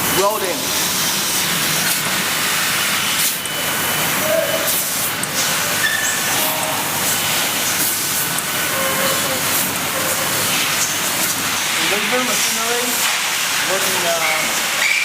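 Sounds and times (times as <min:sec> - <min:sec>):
laser cutting machine hissing: 0:00.0 - 0:15.0.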